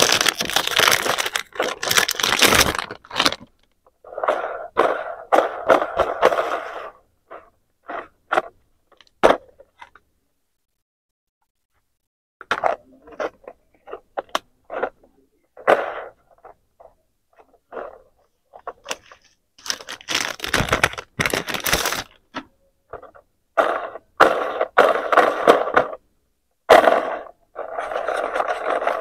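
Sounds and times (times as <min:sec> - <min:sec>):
plastic toys rustling and scraping: 0:00.0 - 0:10.0, 0:12.4 - 0:26.0, 0:26.7 - 0:29.0.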